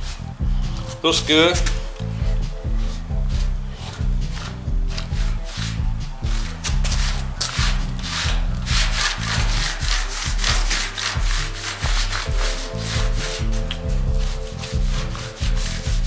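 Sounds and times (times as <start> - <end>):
background music: 0.0 - 16.0
rag rubbing on metal: 0.0 - 16.0.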